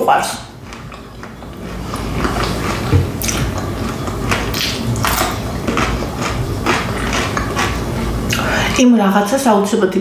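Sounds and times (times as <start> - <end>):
person chewing food: 0.5 - 8.8.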